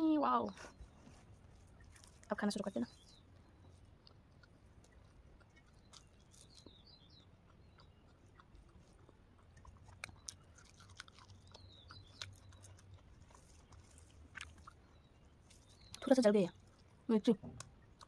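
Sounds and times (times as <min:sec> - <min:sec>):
bird chirping: 0:00.0 - 0:18.0
quiet chewing: 0:00.5 - 0:18.0.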